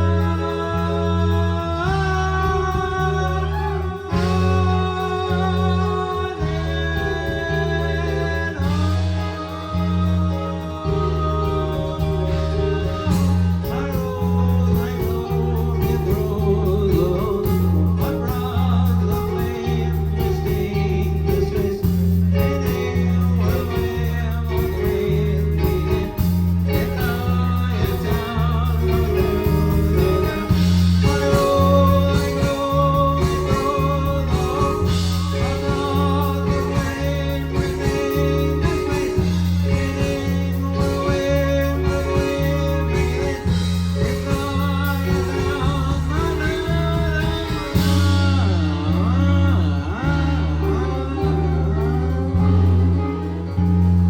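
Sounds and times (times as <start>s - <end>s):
bass line: 0.0s - 54.0s
guitar: 0.0s - 54.0s
person singing: 0.0s - 54.0s.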